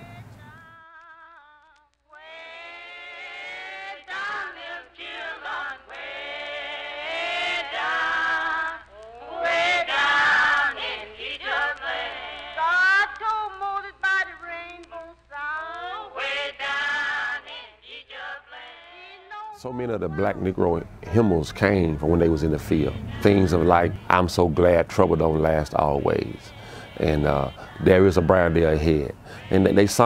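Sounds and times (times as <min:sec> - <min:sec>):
unaccompanied hymn singing: 0:00.0 - 0:30.0.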